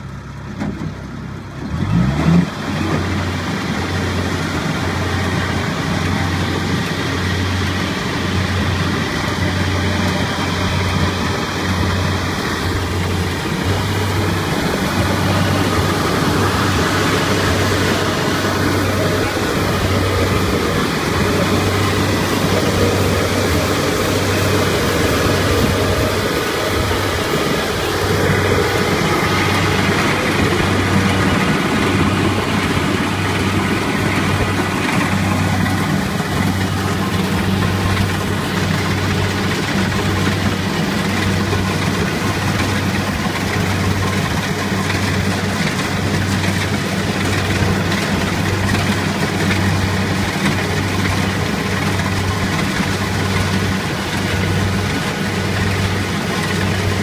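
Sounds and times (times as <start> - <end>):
combine harvester engine drone: 0.0 - 57.0.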